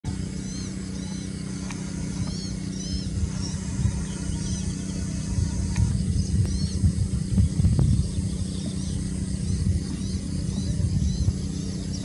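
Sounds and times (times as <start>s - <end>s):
steady low rumble: 0.0s - 12.0s
small birds chirping: 0.1s - 12.0s.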